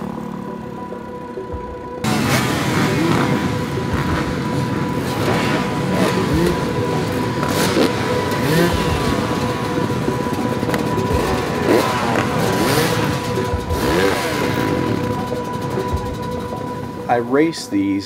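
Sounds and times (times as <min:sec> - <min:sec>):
dirt bike engines revving: 0:00.0 - 0:01.3, 0:02.0 - 0:18.0.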